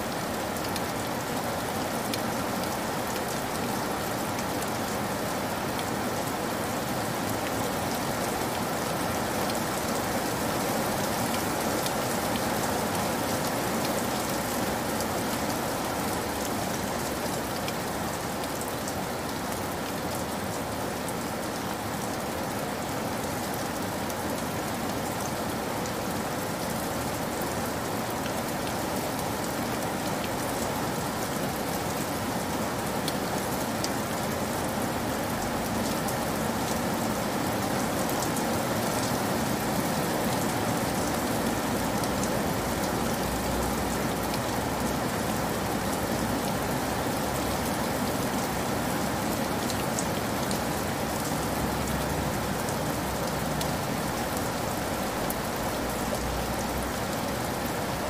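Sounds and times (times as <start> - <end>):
heavy rain on wet ground: 0.0 - 58.0.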